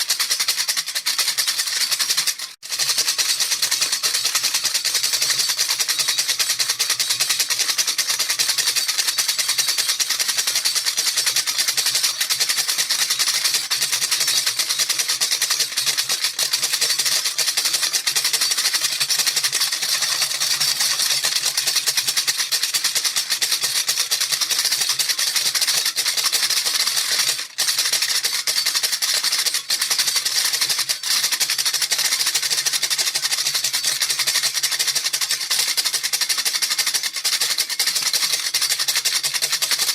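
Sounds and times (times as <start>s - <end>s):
bead rattle shaken: 0.0s - 39.9s.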